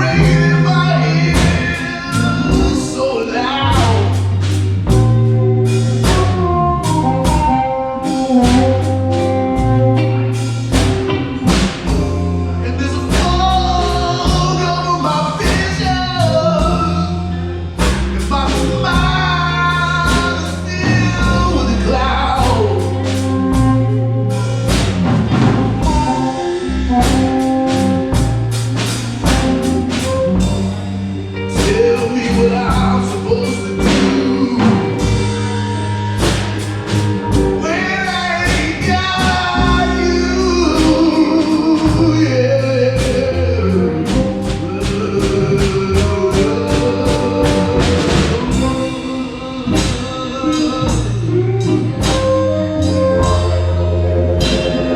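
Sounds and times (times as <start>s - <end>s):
lead guitar bending notes: 0.0s - 54.9s
live blues band: 0.0s - 54.9s.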